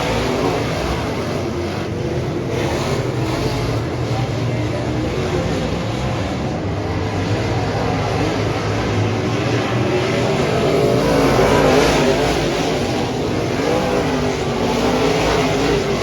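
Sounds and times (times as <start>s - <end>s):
race car engine droning: 0.0s - 16.0s.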